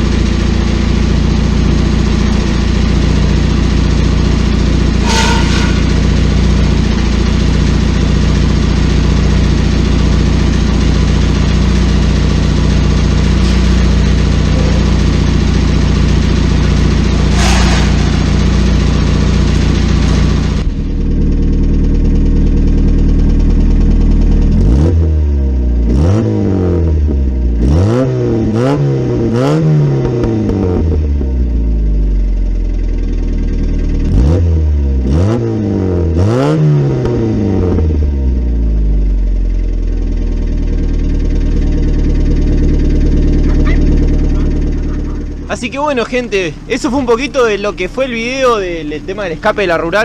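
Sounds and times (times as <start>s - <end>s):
car engine idling and revving: 0.0s - 50.0s.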